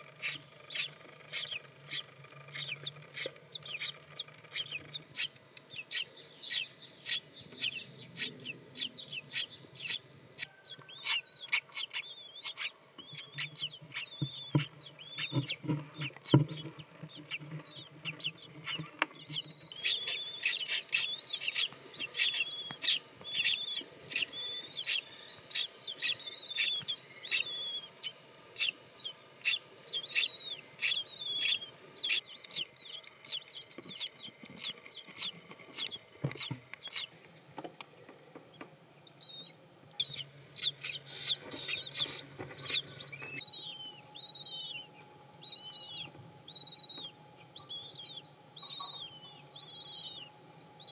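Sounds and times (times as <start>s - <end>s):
kestrels chirping: 0.0s - 37.2s, 38.5s - 50.9s.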